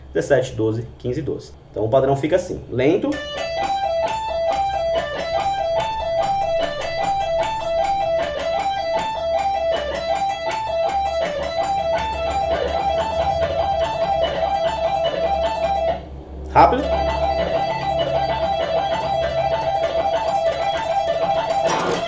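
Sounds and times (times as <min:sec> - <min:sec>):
electric guitar lead lick: 0:03.0 - 0:22.0.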